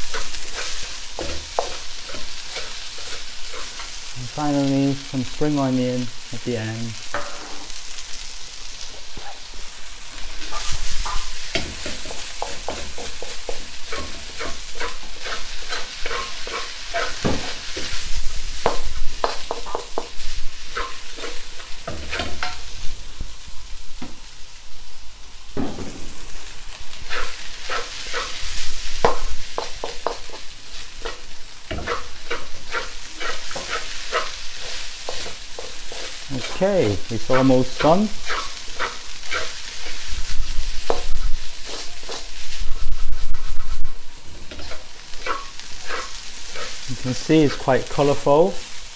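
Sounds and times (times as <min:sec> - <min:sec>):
spatula scraping a wok: 0:00.0 - 0:04.2, 0:07.0 - 0:23.0, 0:25.7 - 0:48.9
rice sizzling in a wok: 0:00.0 - 0:48.9.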